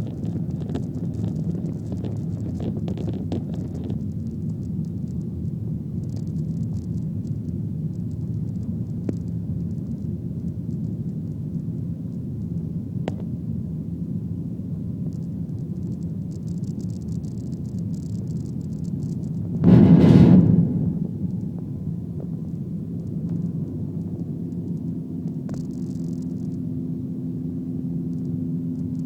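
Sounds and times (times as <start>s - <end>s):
jet engines rumbling in cabin: 0.0s - 29.0s.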